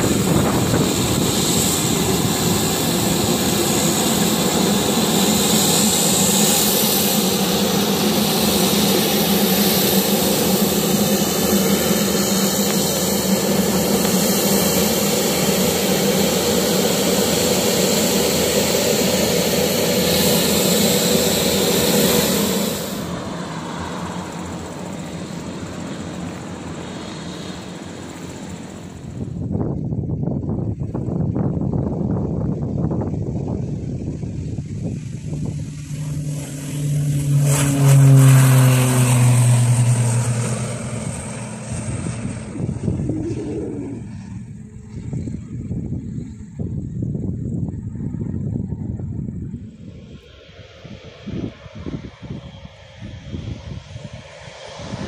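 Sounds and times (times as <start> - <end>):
turboprop engines whining: 0.0 - 55.0.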